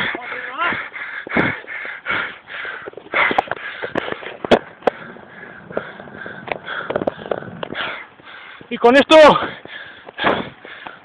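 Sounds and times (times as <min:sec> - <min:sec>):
person breathing hard: 0:00.0 - 0:08.7, 0:09.4 - 0:11.0.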